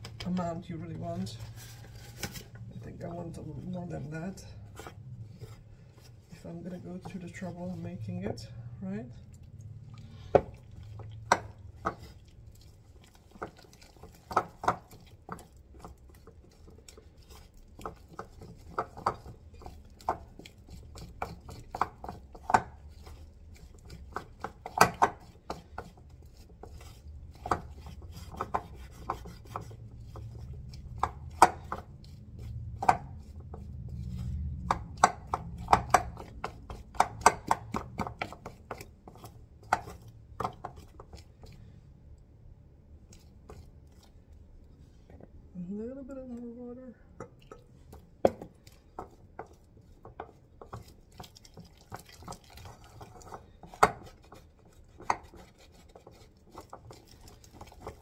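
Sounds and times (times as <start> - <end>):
spoon beating dough in a bowl: 0.0 - 8.6, 9.2 - 41.8, 42.8 - 45.4, 47.0 - 58.0.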